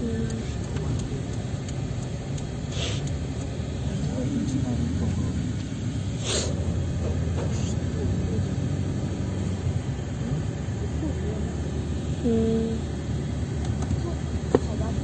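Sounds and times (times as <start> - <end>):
engine and road noise rumble: 0.0 - 15.0.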